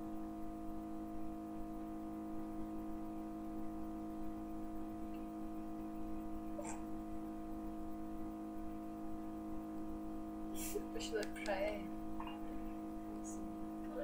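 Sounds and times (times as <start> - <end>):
steady hum of held tones: 0.0 - 14.0.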